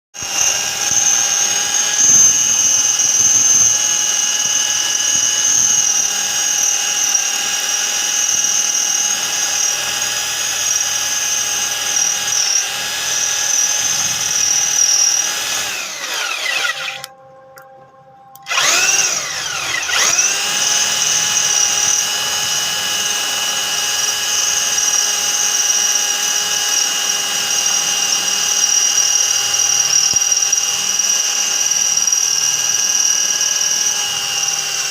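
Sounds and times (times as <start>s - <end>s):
electric drill whining: 0.2s - 17.7s, 18.3s - 34.9s.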